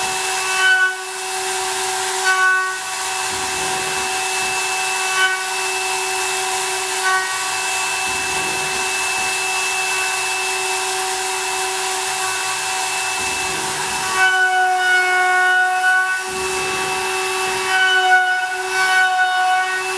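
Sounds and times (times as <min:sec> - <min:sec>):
hiss of cutting: 0:00.0 - 0:19.9
milling machine spindle whine: 0:00.0 - 0:19.9.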